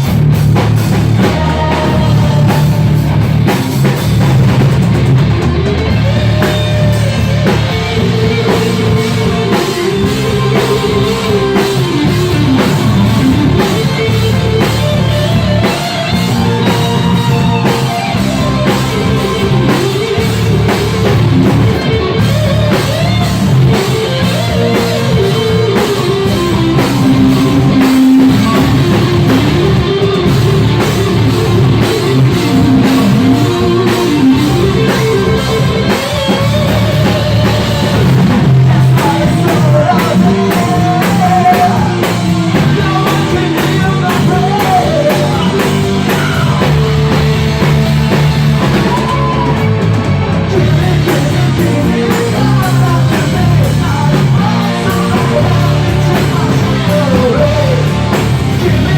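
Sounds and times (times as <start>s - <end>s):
drum kit: 0.0s - 58.9s
electric guitars: 0.0s - 58.9s.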